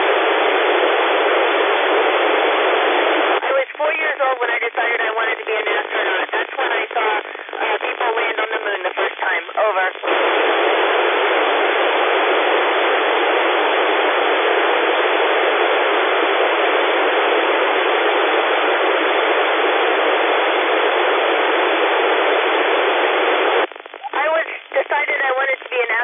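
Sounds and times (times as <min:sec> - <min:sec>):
radio receiver hiss: 0:00.0 - 0:26.0.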